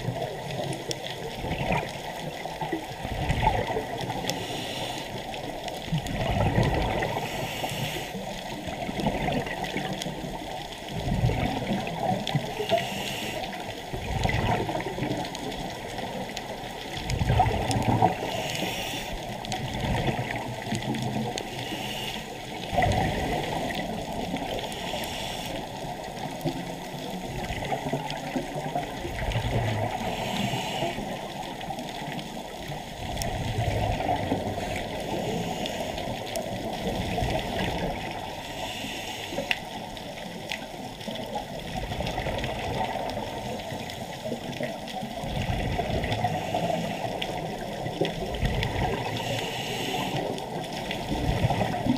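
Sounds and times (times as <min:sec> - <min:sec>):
exhaled bubbles gurgling: 0:00.0 - 0:51.9.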